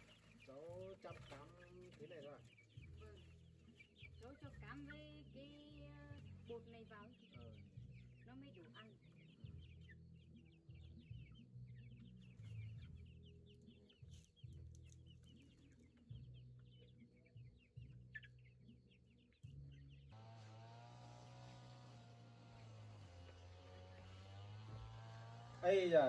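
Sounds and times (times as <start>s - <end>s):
chickens clucking and cheeping: 0.0s - 26.0s.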